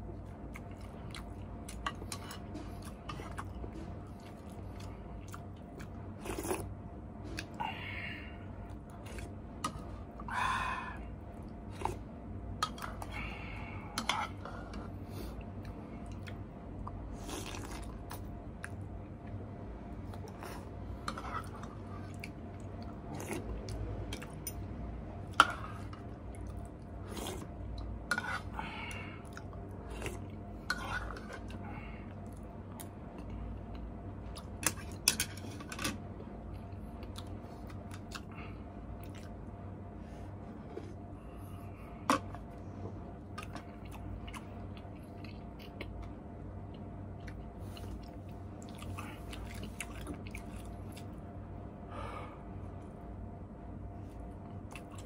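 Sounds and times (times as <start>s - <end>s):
chewing noodle soup: 0.1s - 24.6s, 25.2s - 39.6s, 40.4s - 51.4s, 54.1s - 55.0s.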